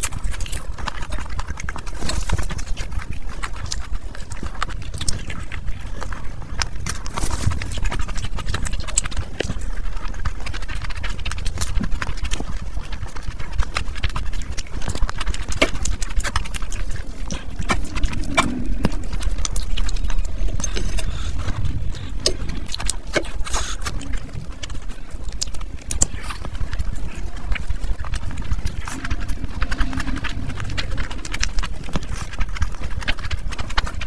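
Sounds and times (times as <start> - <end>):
wet chewing and lip-smacking: 0.0 - 34.0.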